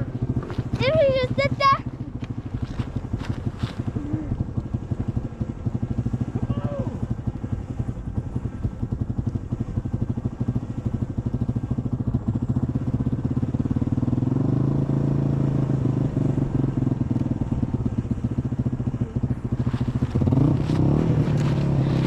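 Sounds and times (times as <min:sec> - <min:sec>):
dirt bike engine puttering: 0:00.0 - 0:10.6, 0:13.3 - 0:22.0.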